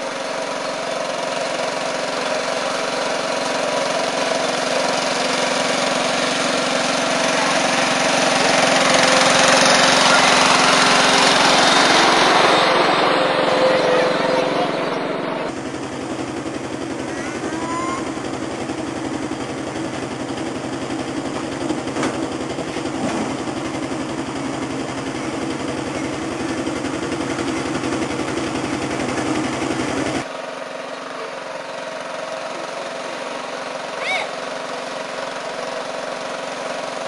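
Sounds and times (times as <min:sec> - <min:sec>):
riding lawn mower engine running: 0:00.0 - 0:37.0.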